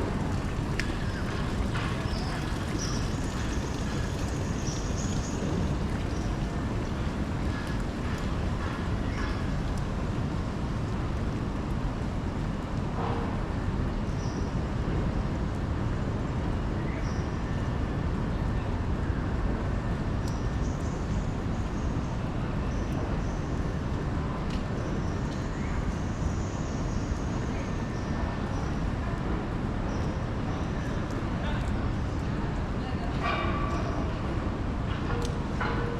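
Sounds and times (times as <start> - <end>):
low traffic rumble: 0.0 - 35.9.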